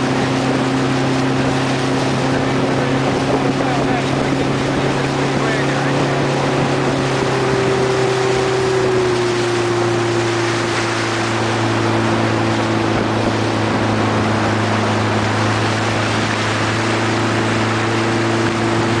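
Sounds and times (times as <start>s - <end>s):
outboard engine humming: 0.0s - 19.0s
water rushing past hull: 0.0s - 19.0s.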